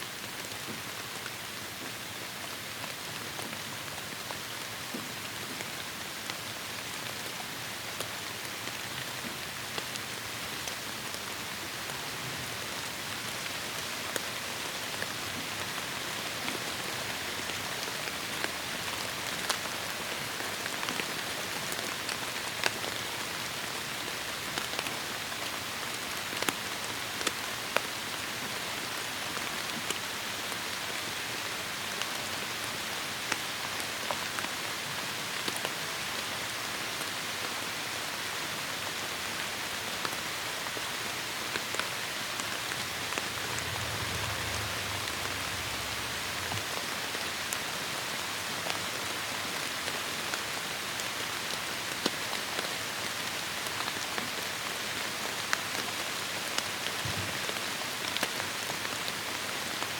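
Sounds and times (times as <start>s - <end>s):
heavy rain on foliage: 0.0s - 59.9s.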